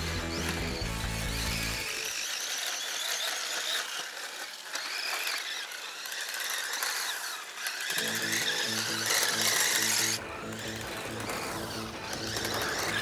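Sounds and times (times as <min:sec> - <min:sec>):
electric rc car motor whining: 0:00.0 - 0:13.0.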